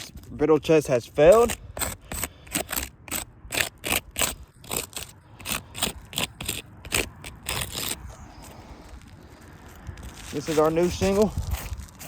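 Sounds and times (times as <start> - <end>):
gritty scrapes on roof shingles: 0.0 - 12.0.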